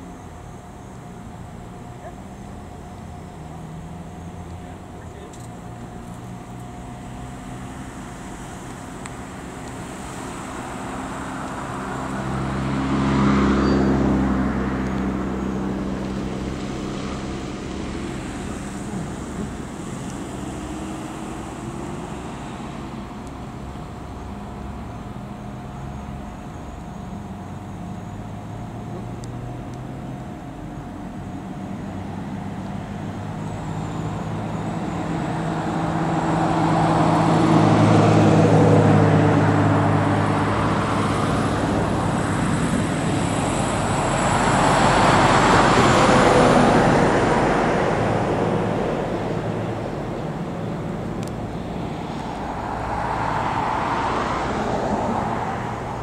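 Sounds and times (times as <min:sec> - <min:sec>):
road traffic hum: 0:00.0 - 0:56.0
vehicle passing: 0:01.5 - 0:26.3, 0:28.3 - 0:56.0.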